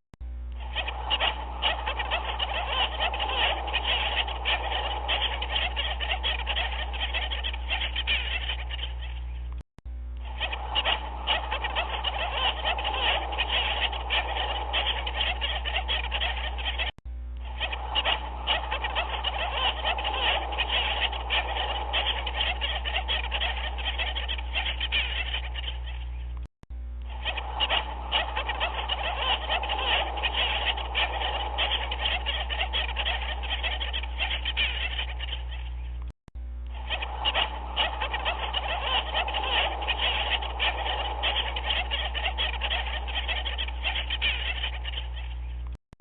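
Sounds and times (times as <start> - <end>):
chorus of animals calling: 0.5 - 9.5, 10.2 - 26.4, 27.1 - 36.0, 36.7 - 45.7.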